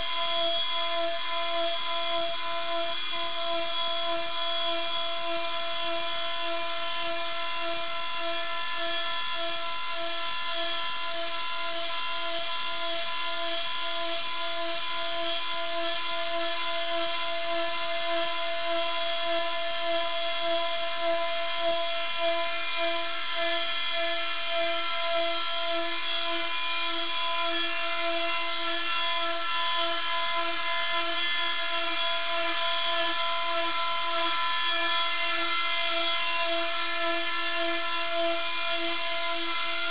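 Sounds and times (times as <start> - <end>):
router spindle high-pitched whine: 0.0 - 39.9.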